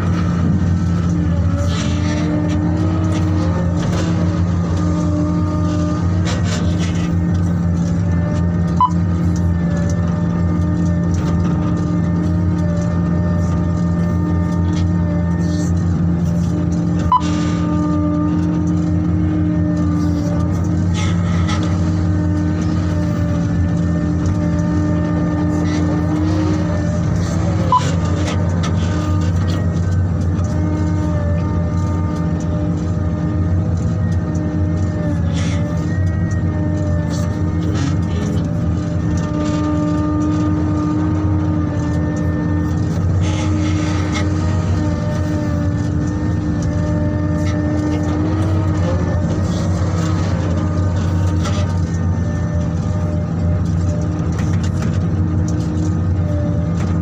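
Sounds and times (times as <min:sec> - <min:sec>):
diesel engines running steadily: 0:00.0 - 0:57.0.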